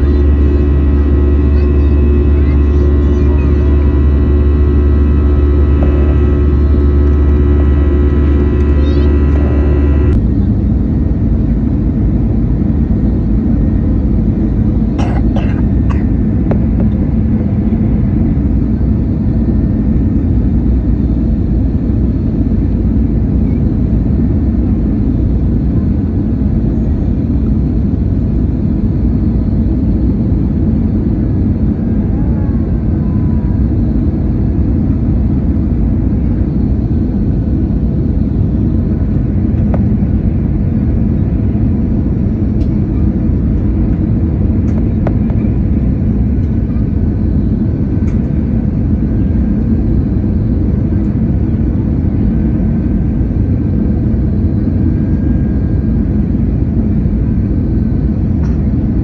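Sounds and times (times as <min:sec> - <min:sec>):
airliner engine roar in cabin: 0:00.0 - 0:59.0
steady whine: 0:00.0 - 0:59.0.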